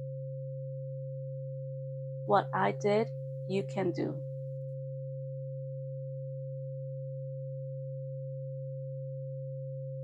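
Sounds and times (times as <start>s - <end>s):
electronic sine-tone drone: 0.0s - 10.0s.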